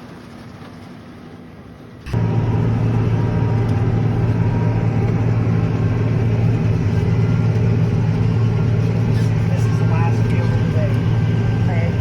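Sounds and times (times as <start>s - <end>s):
tractor engine running: 1.9s - 12.0s.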